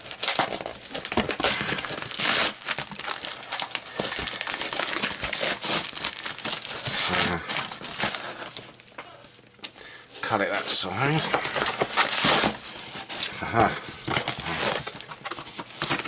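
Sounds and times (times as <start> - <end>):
tape and cardboard tearing: 0.0 - 8.6, 11.3 - 16.0.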